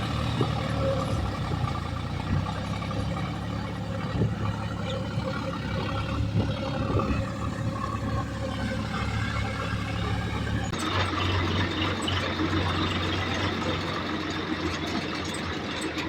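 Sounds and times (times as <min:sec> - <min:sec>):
knocks and clunks: 0:00.0 - 0:15.6
heavy diesel engine running: 0:00.0 - 0:16.0.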